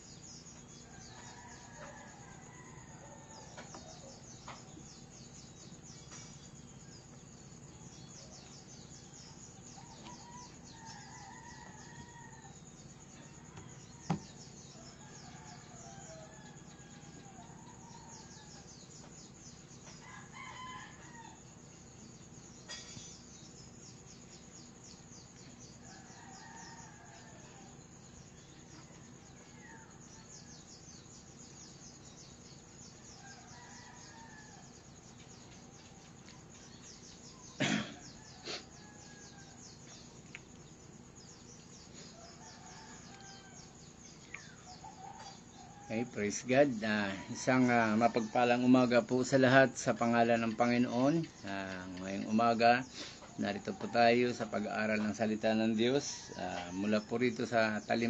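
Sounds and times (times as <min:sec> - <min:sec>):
faint rooster crows: 0:00.2 - 0:05.0, 0:09.2 - 0:21.9, 0:25.2 - 0:36.9, 0:37.5 - 0:58.0.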